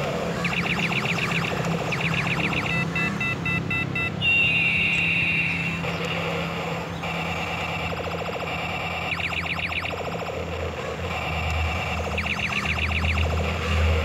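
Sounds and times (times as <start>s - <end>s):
falling electronic tone: 0.0s - 14.0s
warbling electronic tone: 0.0s - 14.0s
short electronic beeps: 0.4s - 10.3s, 11.1s - 13.8s.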